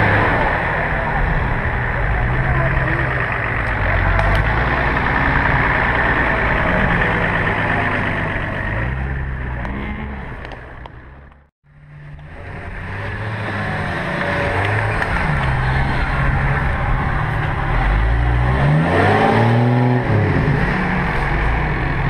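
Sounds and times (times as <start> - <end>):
off-road engines revving: 0.0 - 22.0.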